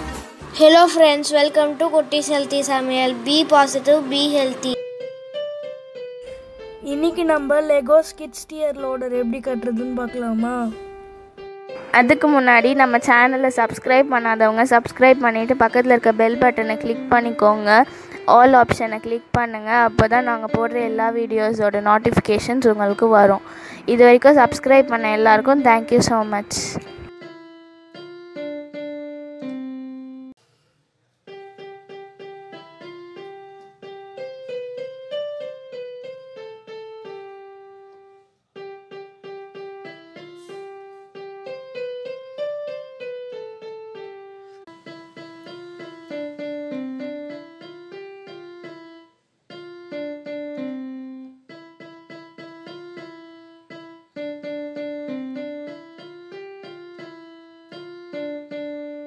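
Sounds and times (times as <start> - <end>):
piano melody: 0.0 - 30.4, 31.3 - 59.0.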